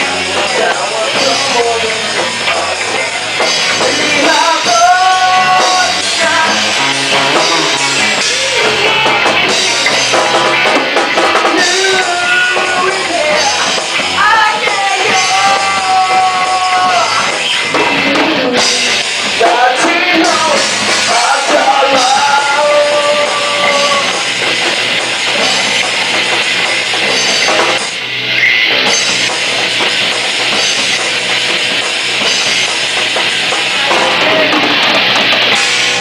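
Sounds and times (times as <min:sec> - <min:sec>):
drum kit: 0:00.0 - 0:36.0
guitars: 0:00.0 - 0:36.0.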